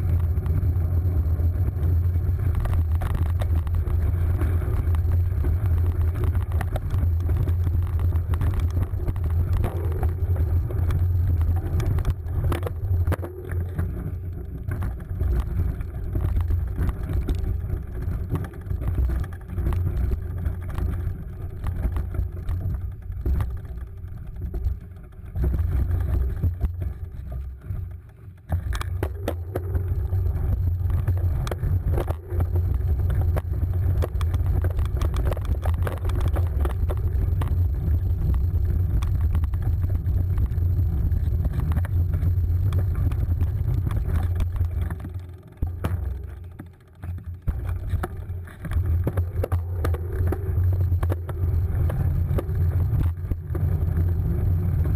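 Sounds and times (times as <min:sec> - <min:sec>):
bike rolling over dirt: 0:00.0 - 0:54.9
clicks and rattles: 0:00.0 - 0:54.9
wind rumble: 0:00.0 - 0:54.9.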